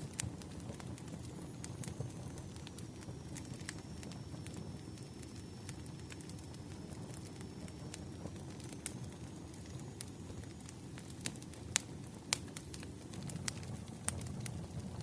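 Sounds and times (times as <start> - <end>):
campfire flames rumbling: 0.0 - 15.0
fire crackling and popping: 0.0 - 15.0.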